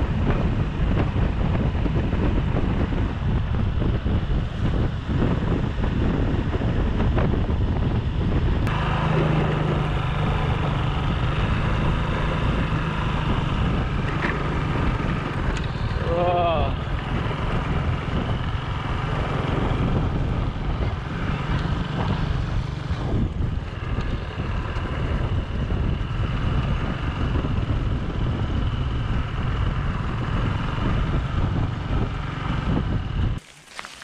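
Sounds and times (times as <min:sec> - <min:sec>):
motorcycle engine running: 0:00.0 - 0:34.0
wind rumble on microphone: 0:00.0 - 0:34.0.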